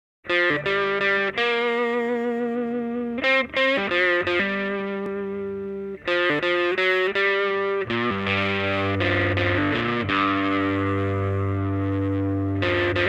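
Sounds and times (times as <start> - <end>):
distorted electric guitar blues: 0.2 - 13.0.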